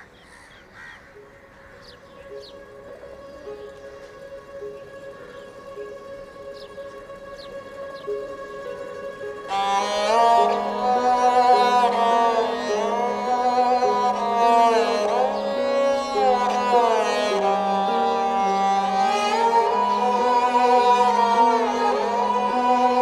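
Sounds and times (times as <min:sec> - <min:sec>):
film score melody: 0:01.1 - 0:23.0.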